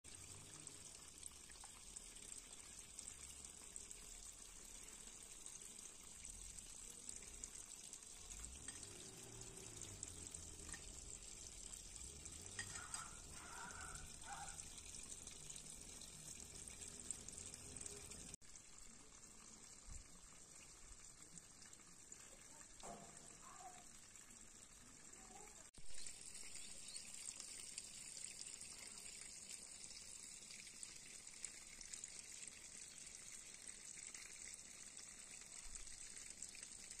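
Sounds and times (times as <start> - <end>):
outdoor background hiss: 0.1 - 37.0.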